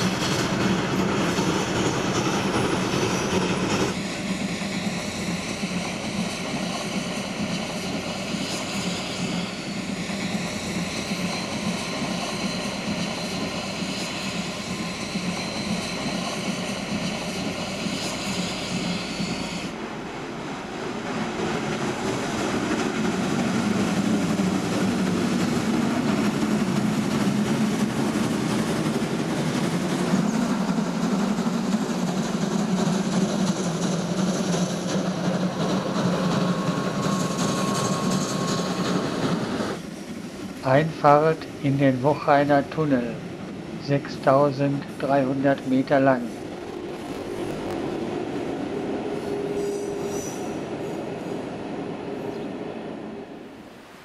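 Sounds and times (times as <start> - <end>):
steam locomotive exhaust rushing: 0.0 - 54.0.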